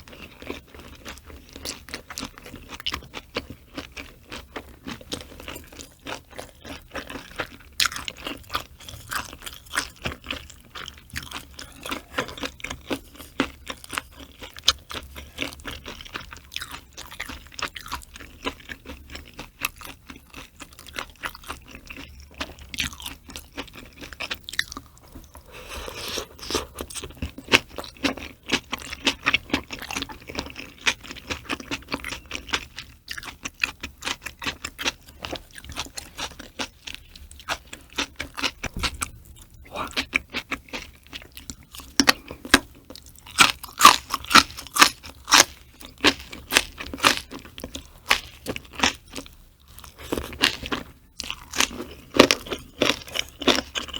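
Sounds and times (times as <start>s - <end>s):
wet crunchy chewing: 0.0s - 53.9s.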